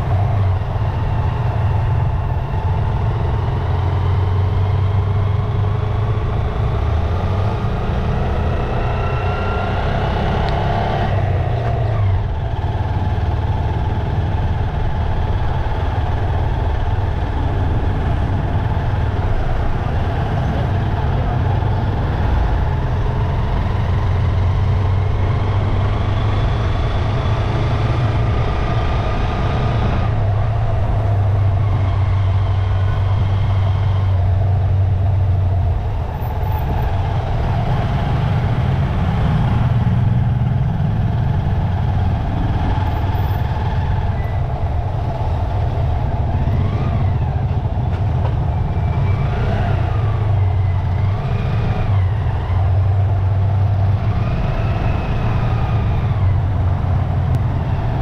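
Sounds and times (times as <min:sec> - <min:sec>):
road noise: 0:00.0 - 0:58.0
traffic passing close by: 0:00.0 - 0:58.0.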